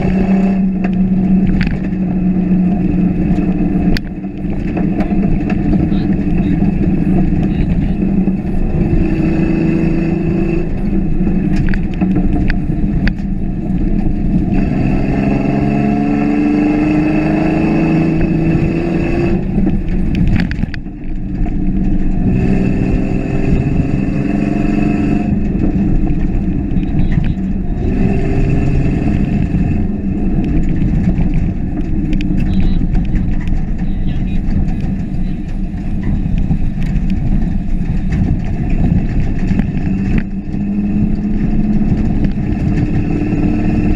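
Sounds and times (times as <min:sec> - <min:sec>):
truck engine accelerating: 0:00.0 - 0:43.9.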